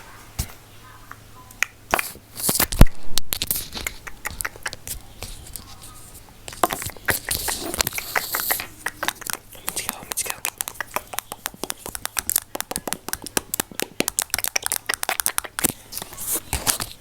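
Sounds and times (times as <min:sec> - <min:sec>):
clicks and crackles: 0:01.1 - 0:05.8, 0:06.5 - 0:17.0
scratchy rustles: 0:02.0 - 0:17.0.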